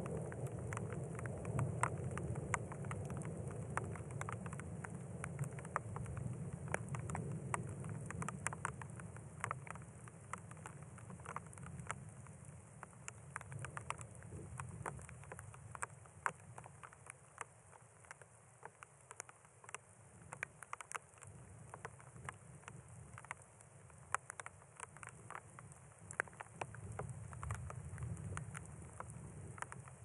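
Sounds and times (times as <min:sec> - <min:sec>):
raindrops pattering: 0:00.0 - 0:30.0.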